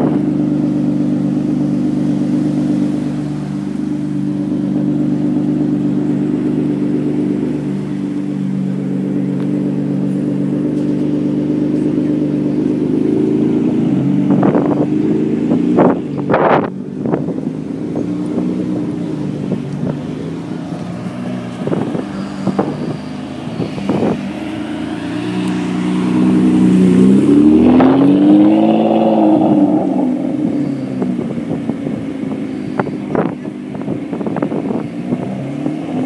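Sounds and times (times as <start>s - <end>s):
car engines running at low revs: 0.0s - 36.0s
sports car engine revving: 0.0s - 36.0s.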